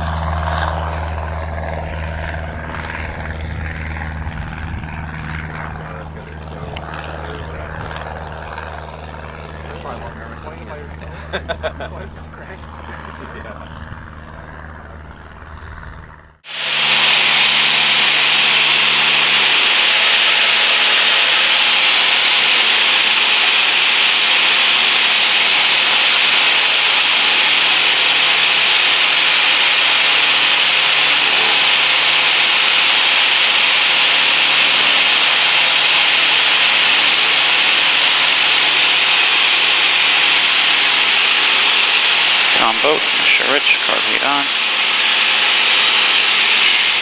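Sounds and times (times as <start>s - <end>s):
airplane engine and propeller drone: 0.0s - 47.0s.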